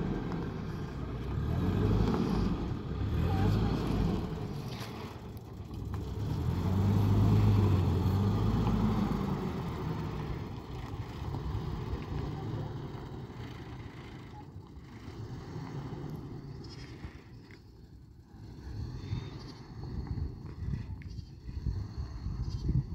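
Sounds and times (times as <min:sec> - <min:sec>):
pickup truck engine pulling away: 0:00.0 - 0:22.8.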